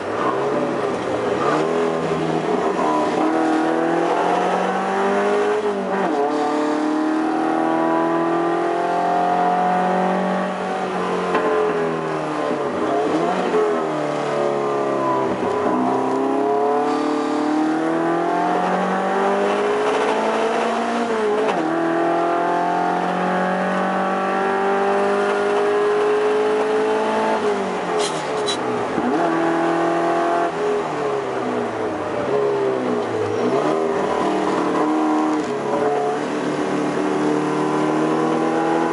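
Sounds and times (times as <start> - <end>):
race car engine revving through gears: 0.0 - 38.9.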